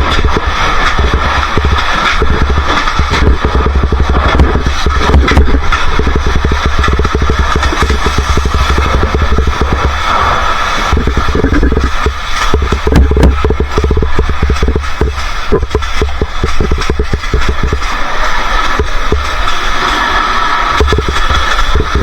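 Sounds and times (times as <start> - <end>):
motorcycle engine running: 0.0 - 19.5
wind rumbling on microphone: 0.0 - 22.0.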